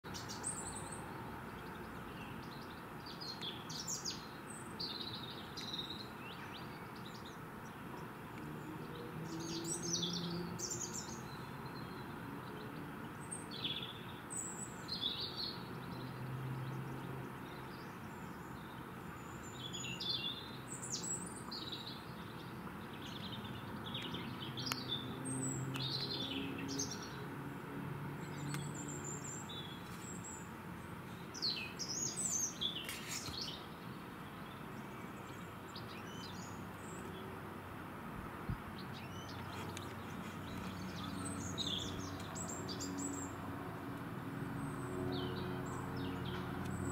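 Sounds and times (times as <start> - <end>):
small birds chirping: 0.0 - 46.9
low outdoor noise: 0.1 - 46.9.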